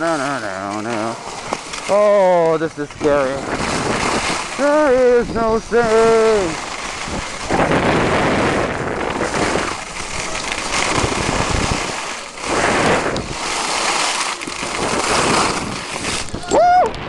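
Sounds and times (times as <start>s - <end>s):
skis scraping over snow: 0.0s - 16.8s
wind on microphone: 0.0s - 17.0s.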